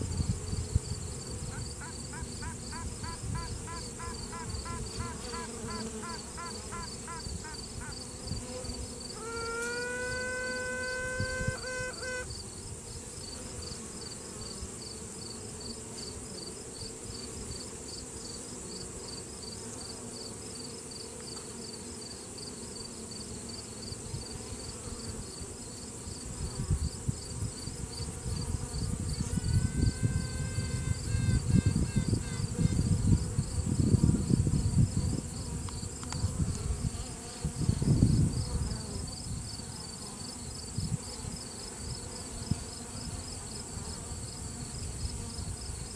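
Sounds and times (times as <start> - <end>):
honey bee colony humming: 0.0 - 45.9
queen bee piping: 0.0 - 45.9.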